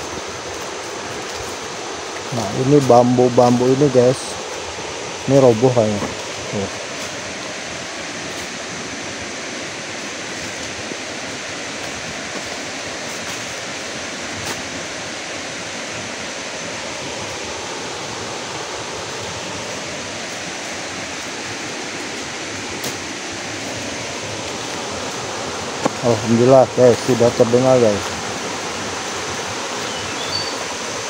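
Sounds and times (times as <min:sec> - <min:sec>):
distant waterfall rushing: 0:00.0 - 0:31.0.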